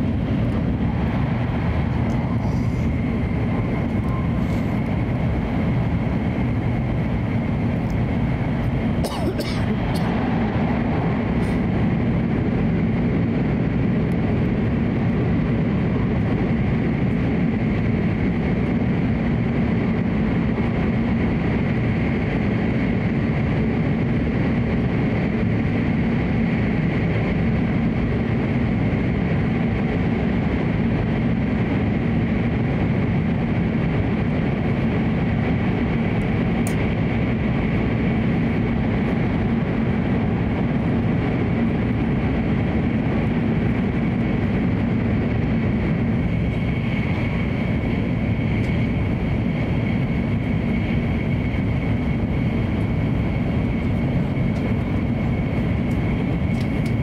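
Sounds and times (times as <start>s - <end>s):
train running in tunnel: 0.0s - 57.0s.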